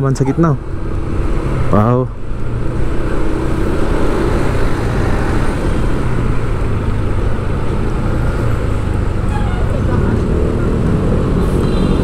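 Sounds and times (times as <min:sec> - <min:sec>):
tyres on road: 0:00.0 - 0:12.0
vehicle engines running: 0:00.0 - 0:12.0.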